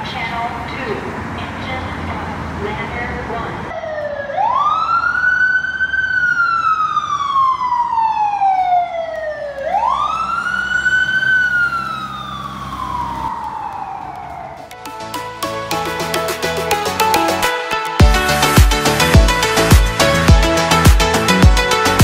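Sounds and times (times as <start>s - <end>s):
fire engine siren wailing: 0.5s - 22.0s.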